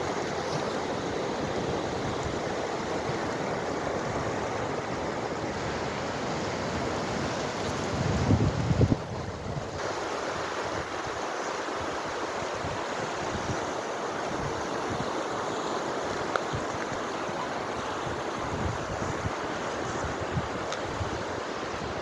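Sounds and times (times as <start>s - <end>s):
wind on microphone: 0.0s - 15.2s, 16.0s - 22.0s
sea surf washing ashore: 0.0s - 22.0s.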